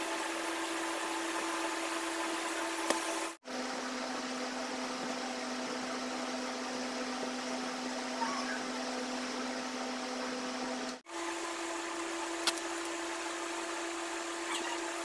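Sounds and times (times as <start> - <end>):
motor hum with hiss: 0.0 - 15.0.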